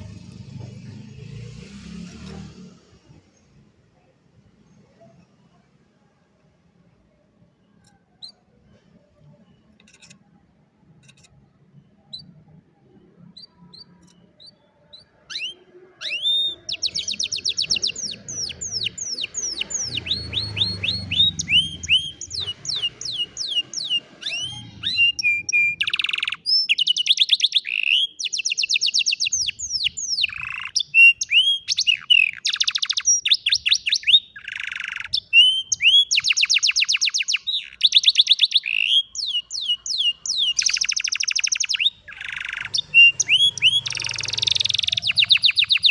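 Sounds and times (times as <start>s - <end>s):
canary singing trills: 7.5s - 45.9s.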